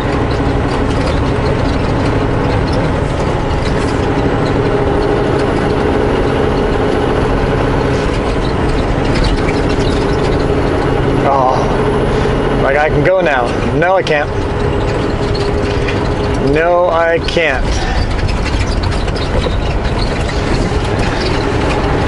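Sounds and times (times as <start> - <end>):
diesel truck engine droning: 0.0 - 22.0
road noise: 0.0 - 22.0.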